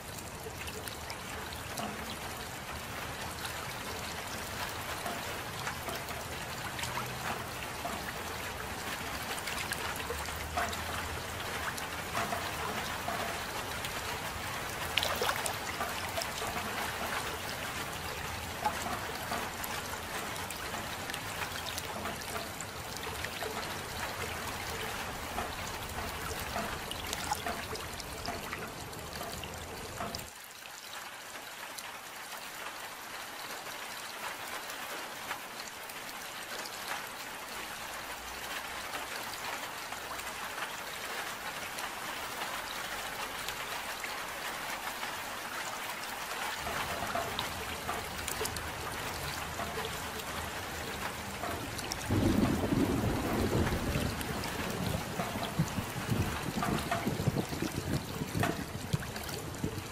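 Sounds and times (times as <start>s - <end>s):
rain pattering: 0.0s - 59.9s
trickling water: 0.0s - 59.9s.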